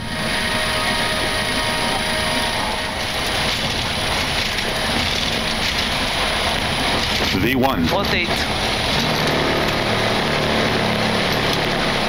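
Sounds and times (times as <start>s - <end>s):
jet engines roaring on takeoff: 0.0s - 12.0s.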